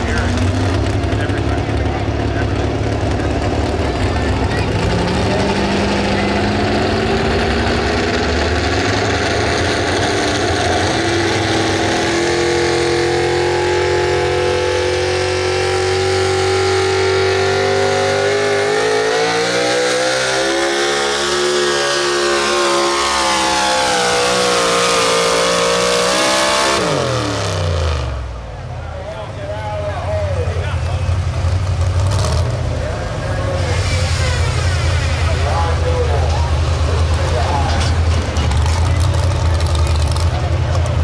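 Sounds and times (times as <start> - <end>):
truck engine running hard: 0.0 - 41.0.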